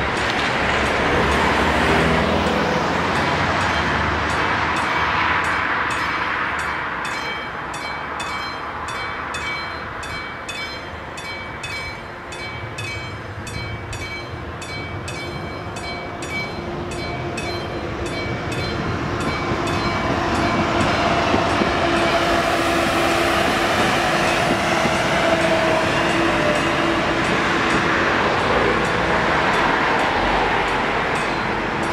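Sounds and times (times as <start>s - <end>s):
electric train approaching: 0.0s - 31.9s
level-crossing warning bell: 0.0s - 31.9s.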